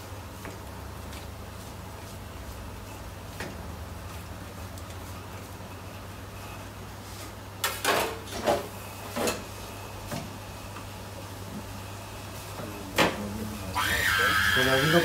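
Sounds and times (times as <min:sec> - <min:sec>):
kitchen equipment hum: 0:00.0 - 0:15.0.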